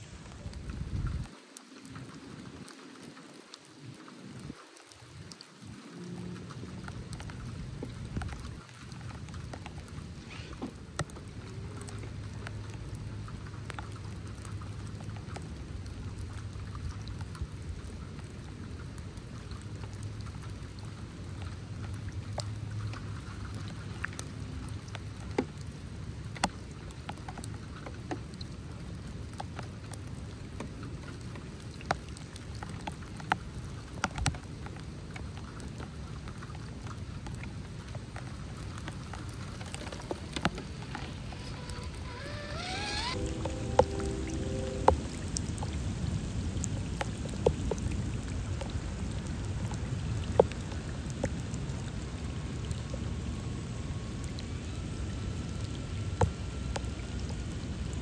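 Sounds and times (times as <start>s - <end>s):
raindrops tapping close by: 0.0s - 58.0s
steady rain falling: 0.0s - 58.0s.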